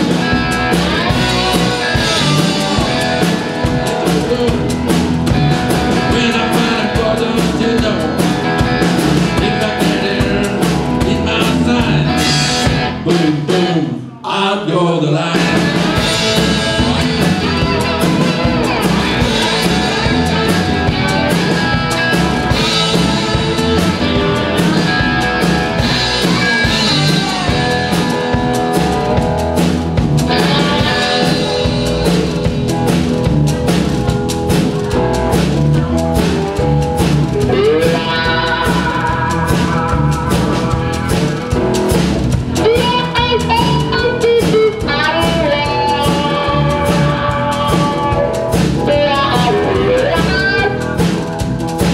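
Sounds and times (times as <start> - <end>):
cigar box guitar lead lines: 0.0 - 13.7, 15.4 - 51.9
blues-rock band playing: 0.0 - 14.1, 15.1 - 51.9.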